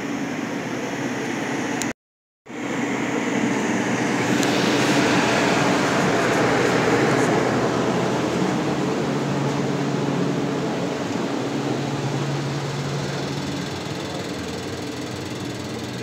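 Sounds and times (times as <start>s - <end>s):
generator humming: 0.0s - 1.9s, 2.5s - 16.0s
ventilation blower running: 0.0s - 1.9s, 2.5s - 16.0s.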